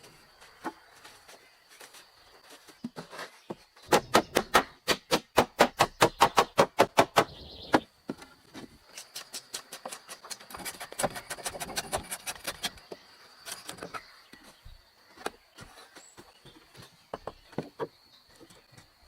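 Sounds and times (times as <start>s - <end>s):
irregular knocks and scraping: 0.0s - 4.6s, 8.0s - 19.0s.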